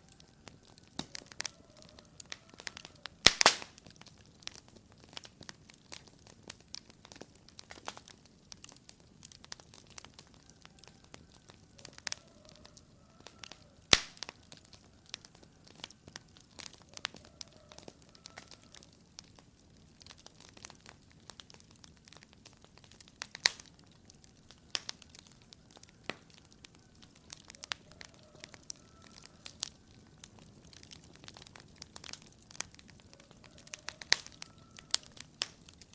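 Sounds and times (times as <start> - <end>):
sharp pops from fire: 0.0 - 35.9
wood fire crackling: 0.0 - 35.9.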